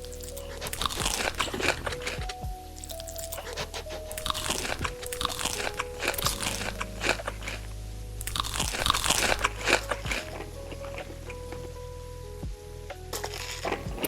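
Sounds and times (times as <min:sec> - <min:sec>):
crunchy food being chewed: 0:00.0 - 0:07.6, 0:08.2 - 0:11.4, 0:13.2 - 0:14.0.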